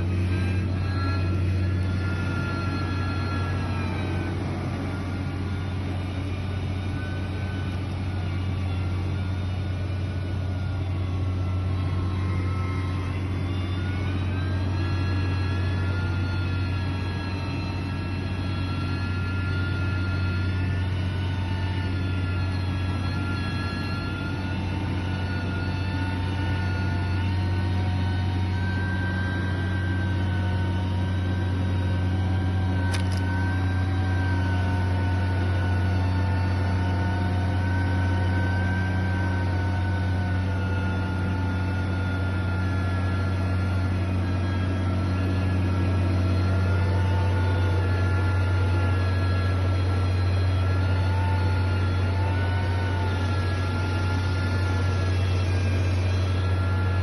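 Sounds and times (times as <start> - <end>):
heavy machine engine humming: 0.0 - 57.0.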